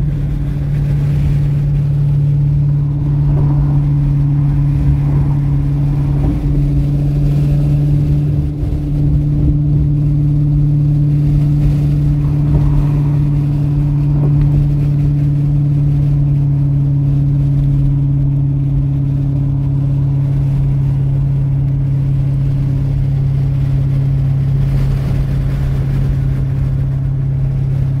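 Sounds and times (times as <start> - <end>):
car engine droning: 0.0 - 28.0
tyre and road noise: 0.0 - 28.0.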